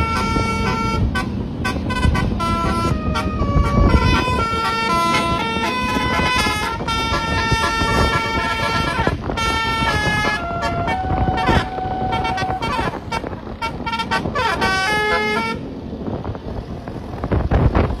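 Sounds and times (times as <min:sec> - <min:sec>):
bus horn playing a tune: 0:00.0 - 0:16.1
noisy rush: 0:00.0 - 0:18.0.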